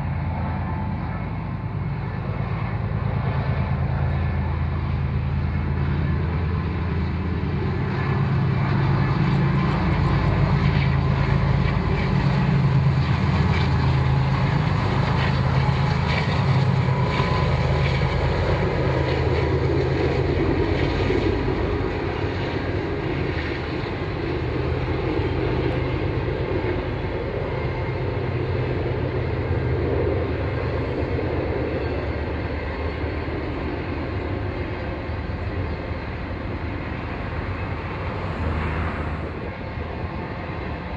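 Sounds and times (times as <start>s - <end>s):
locomotive engine drone: 0.0s - 40.9s.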